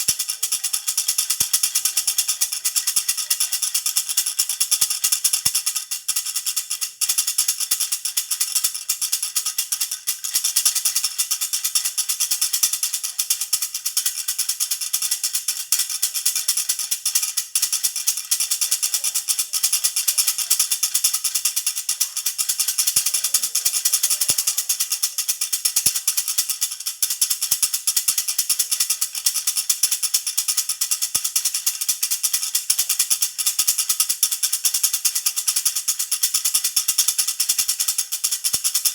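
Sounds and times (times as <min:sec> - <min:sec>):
baby rattle jingling: 0:00.0 - 0:38.9.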